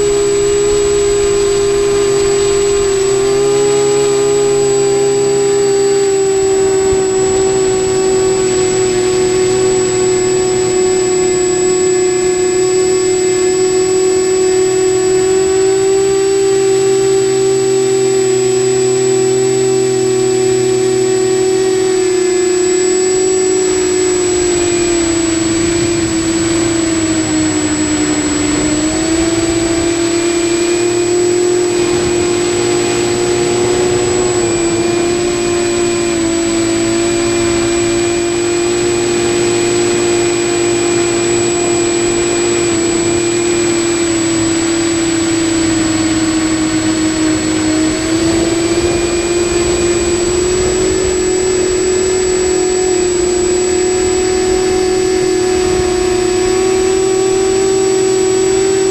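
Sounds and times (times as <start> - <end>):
quadcopter motors whining: 0.0 - 58.9.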